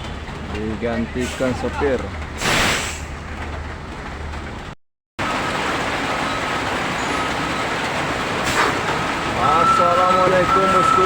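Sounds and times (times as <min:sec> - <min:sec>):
truck traffic road noise: 0:00.0 - 0:11.0.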